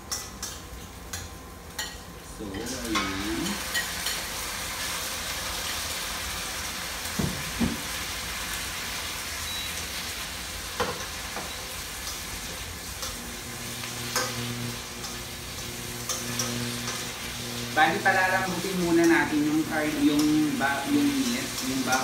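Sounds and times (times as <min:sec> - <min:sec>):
meat sizzling in hot oil: 0:02.4 - 0:22.0.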